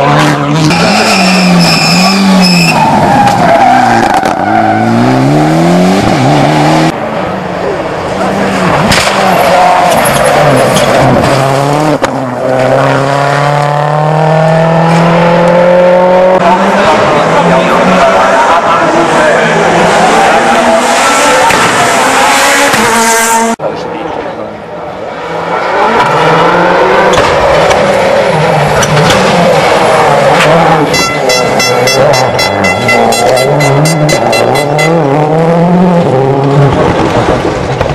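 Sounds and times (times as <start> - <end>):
rally car engine accelerating: 0.0 - 23.7, 25.0 - 37.9.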